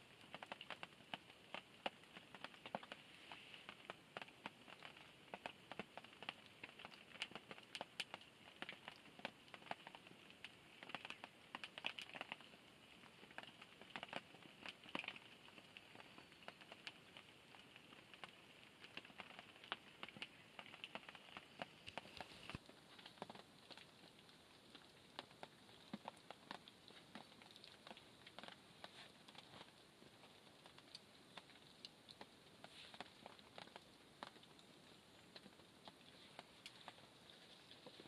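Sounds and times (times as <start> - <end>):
fire crackling: 0.0 - 38.0
light rain pattering: 0.0 - 38.0
water dripping: 0.0 - 38.0.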